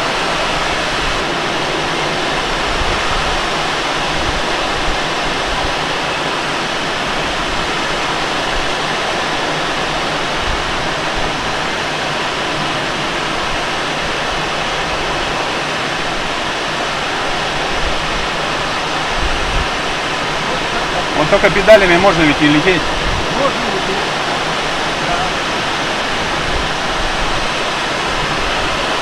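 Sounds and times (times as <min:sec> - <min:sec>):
airflow rushing in cockpit: 0:00.0 - 0:29.0.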